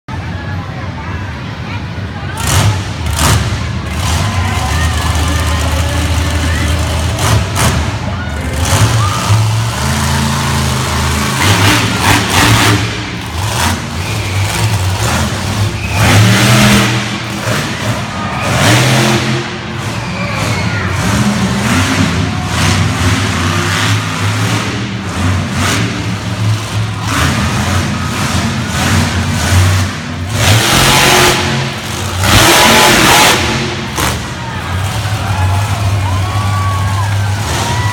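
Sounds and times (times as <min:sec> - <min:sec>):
monster truck engine revving: 0:01.5 - 0:37.9.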